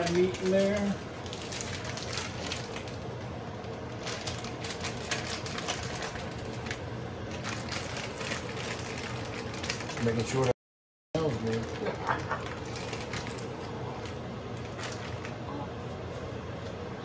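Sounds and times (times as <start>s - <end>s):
plastic bag rattling and crinkling: 0.0s - 10.6s, 11.2s - 15.4s.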